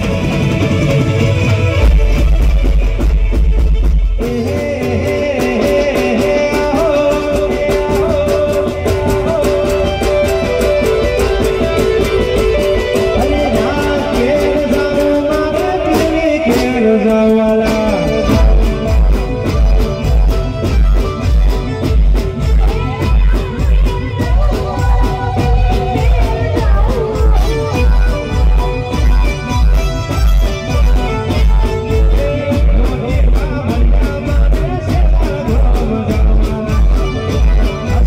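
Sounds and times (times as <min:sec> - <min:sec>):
fast drum beat: 0:00.0 - 0:38.0.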